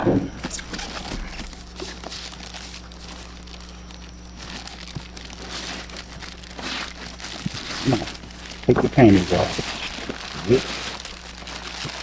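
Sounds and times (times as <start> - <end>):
low electrical hum: 0.0 - 12.0
plastic packaging crinkling: 0.0 - 12.0.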